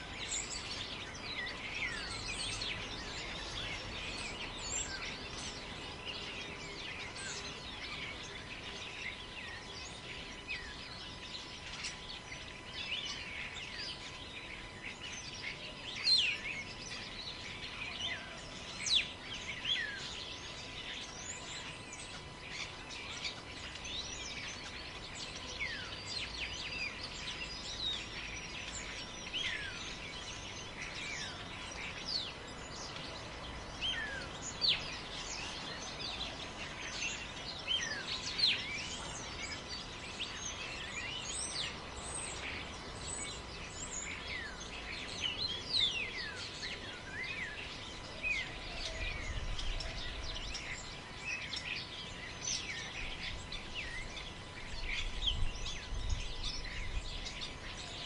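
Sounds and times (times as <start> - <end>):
forest birds chirping: 0.0 - 58.0
wind in trees: 0.0 - 58.0.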